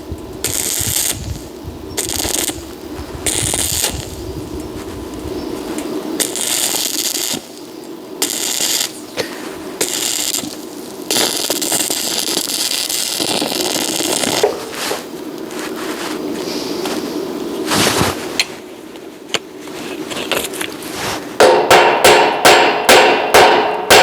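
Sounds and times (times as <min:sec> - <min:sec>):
electric arc welding crackling: 0:00.0 - 0:24.0.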